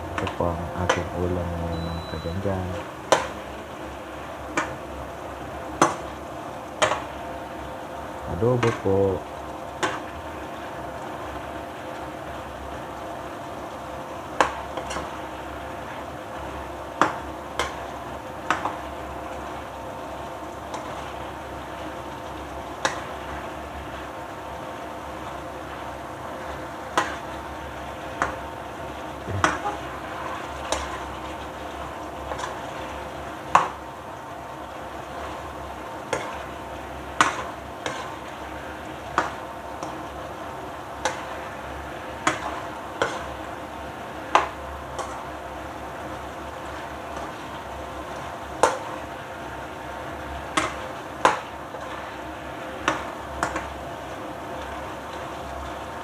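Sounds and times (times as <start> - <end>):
induction cooktop hum: 0.0 - 56.0
pan sizzling: 0.0 - 56.0.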